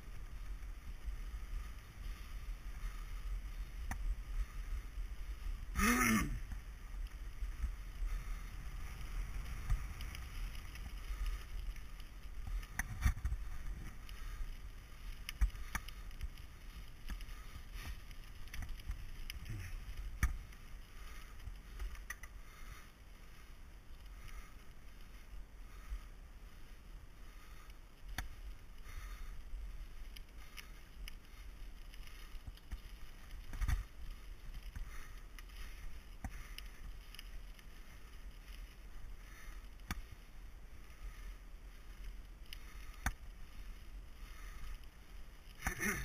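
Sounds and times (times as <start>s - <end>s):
bike tyres rumbling on gravel: 0.0s - 46.0s.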